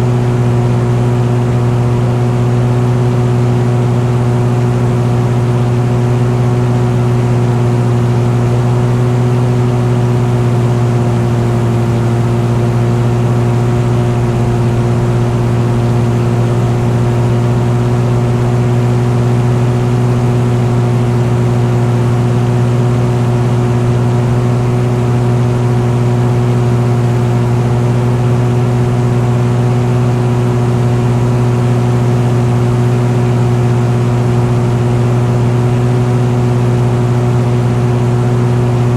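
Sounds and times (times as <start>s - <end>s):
engine humming steadily: 0.0s - 38.9s.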